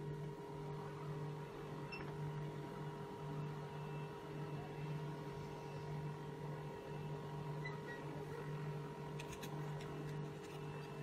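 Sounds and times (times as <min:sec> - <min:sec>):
printer humming: 0:00.0 - 0:11.0.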